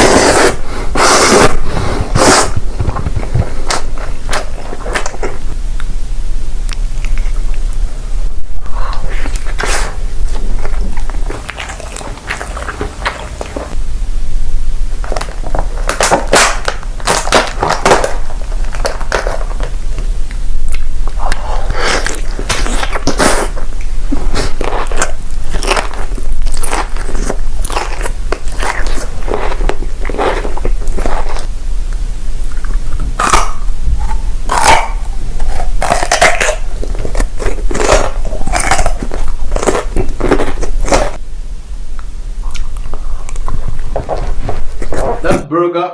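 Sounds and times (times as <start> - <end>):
person chewing crunchy food: 0.0 - 5.9, 6.6 - 7.9, 8.5 - 13.8, 15.0 - 31.5, 32.4 - 41.2.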